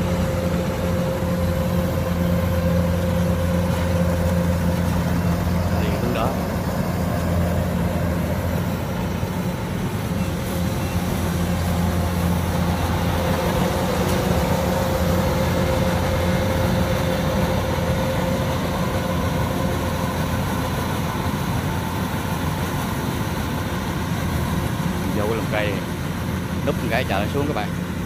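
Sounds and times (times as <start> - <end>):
combine harvester engine droning: 0.0 - 28.0.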